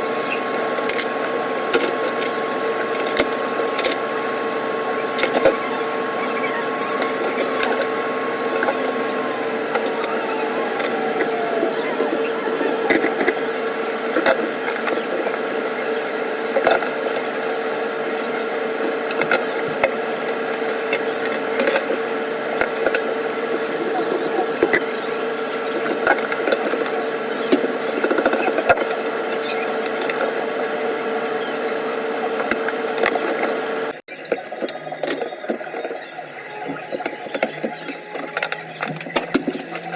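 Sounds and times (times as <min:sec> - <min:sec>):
small motor humming: 0:00.0 - 0:39.9.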